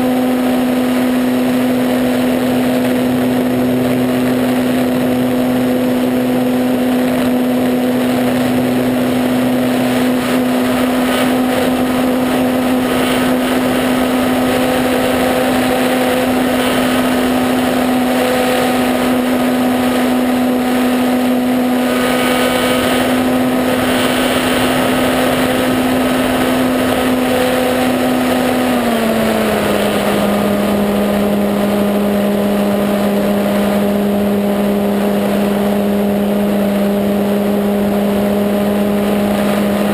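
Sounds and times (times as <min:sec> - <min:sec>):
model plane electric motor humming: 0:00.0 - 0:39.9.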